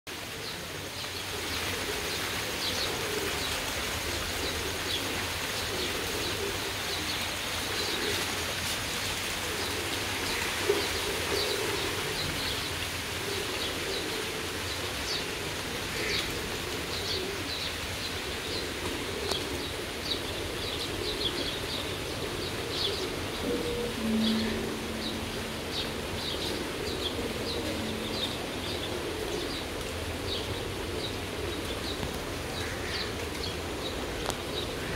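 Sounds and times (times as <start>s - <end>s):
steady rain: 0.1s - 34.9s
pigeons cooing: 0.2s - 34.9s.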